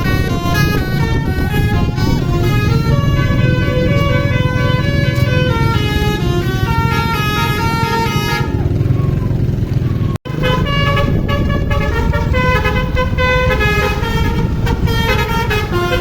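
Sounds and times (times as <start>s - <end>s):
multi-tone bus horn tune: 0.0s - 8.8s, 10.2s - 16.0s
low engine rumble: 0.0s - 16.0s.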